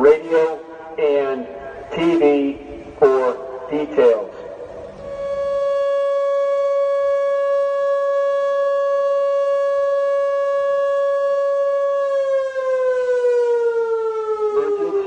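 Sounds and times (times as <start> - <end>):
electronic warning siren tone: 2.6 - 15.0.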